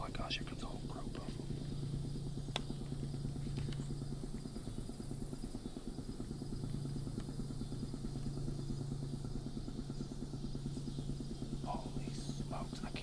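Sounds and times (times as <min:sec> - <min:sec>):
low mechanical hum with flutter: 0:00.0 - 0:13.0.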